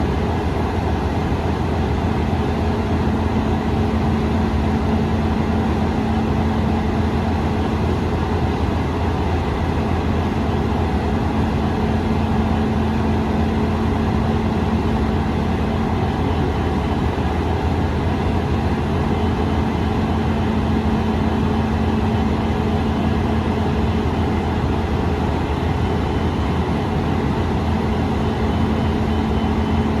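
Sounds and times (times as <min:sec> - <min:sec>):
diesel locomotive engine droning: 0:00.0 - 0:30.0
electric locomotive: 0:00.0 - 0:30.0
steady hum: 0:00.0 - 0:30.0.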